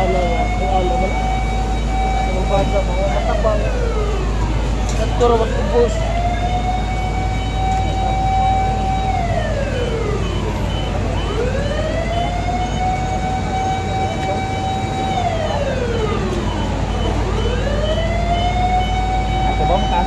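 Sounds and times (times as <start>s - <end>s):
fire truck siren wailing: 0.0s - 20.0s.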